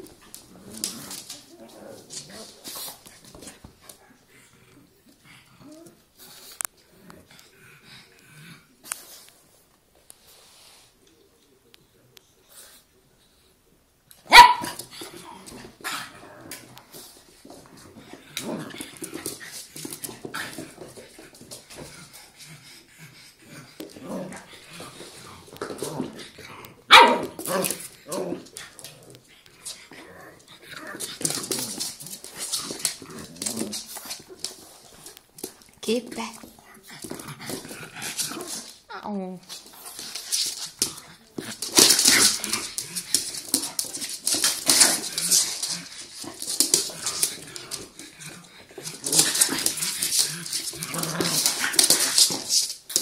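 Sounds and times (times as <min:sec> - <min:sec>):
paws scrabbling on wooden floor: 0:00.0 - 0:04.2, 0:14.3 - 0:53.0
puppies scuffling and clicking: 0:00.0 - 0:04.2, 0:14.1 - 0:53.0.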